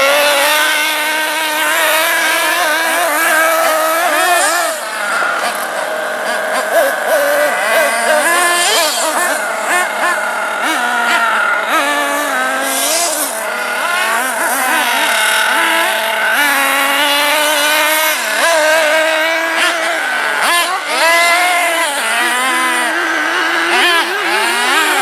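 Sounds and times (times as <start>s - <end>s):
small nitro engine revving: 0.0s - 25.0s.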